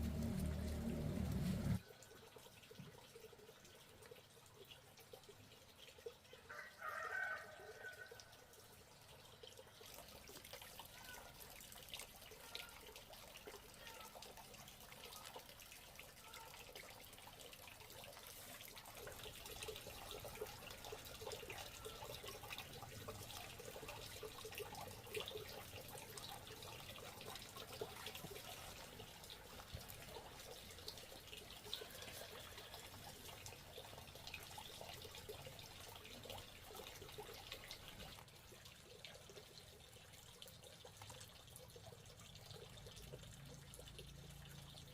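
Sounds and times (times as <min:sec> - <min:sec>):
small drips: 0:00.0 - 0:44.9
water trickling and splashing: 0:00.0 - 0:44.9.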